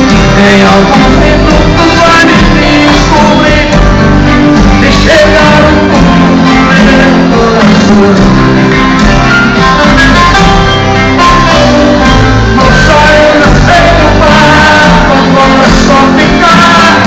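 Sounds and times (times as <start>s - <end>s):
man singing: 0.0s - 10.3s, 11.2s - 17.0s
live band with acoustic guitars: 0.0s - 17.0s.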